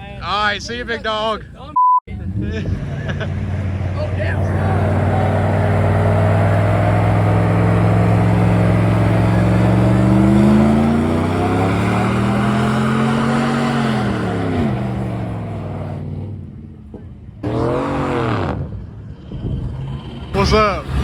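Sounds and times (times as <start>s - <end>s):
pickup truck engine revving: 2.1s - 21.0s.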